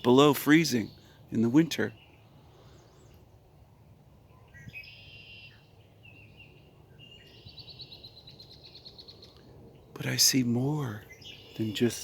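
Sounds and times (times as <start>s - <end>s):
outdoor background noise: 0.0s - 12.0s
songbirds singing: 0.0s - 12.0s.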